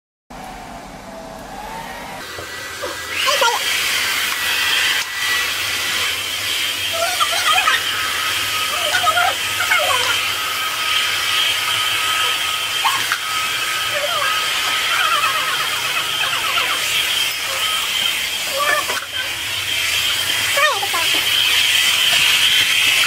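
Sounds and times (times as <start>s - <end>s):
electric blower motor hissing: 0.4s - 23.0s.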